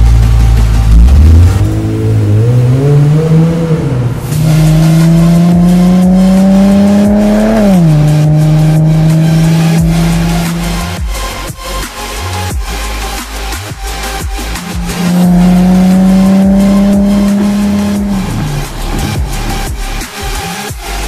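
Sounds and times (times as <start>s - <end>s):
car engine accelerating hard: 0.0s - 12.1s, 12.7s - 21.0s.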